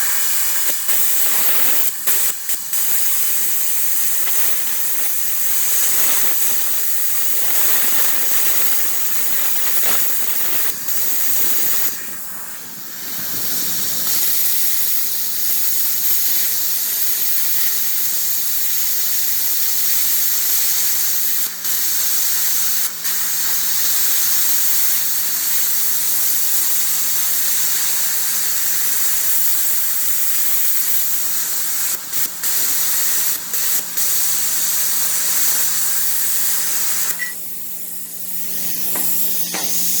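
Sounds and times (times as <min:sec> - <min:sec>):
plasma cutter air hiss: 0:00.0 - 0:40.0.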